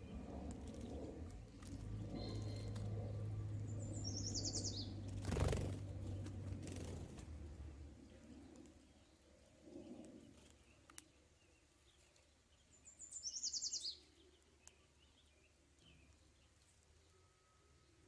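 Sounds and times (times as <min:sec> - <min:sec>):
faint bird chirps: 0:01.8 - 0:07.0, 0:08.0 - 0:18.0.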